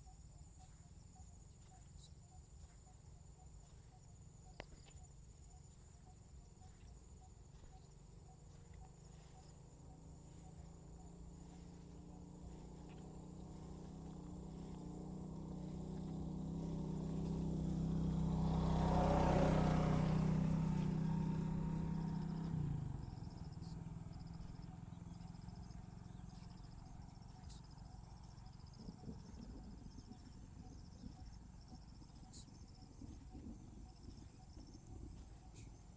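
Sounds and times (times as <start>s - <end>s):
vehicle passing by: 5.4s - 35.9s.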